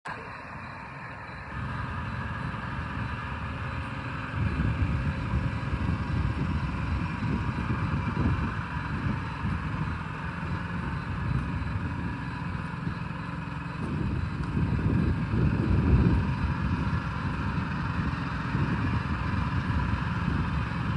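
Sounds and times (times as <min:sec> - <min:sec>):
diesel truck engine running: 0:00.0 - 0:20.9.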